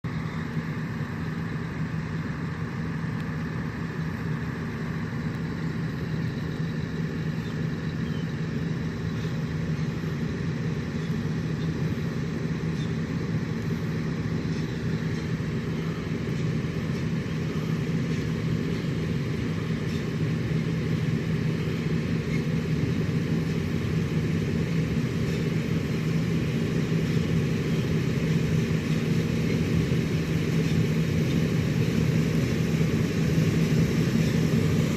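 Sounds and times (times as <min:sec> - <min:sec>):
harvester engine humming: 0:00.0 - 0:34.9.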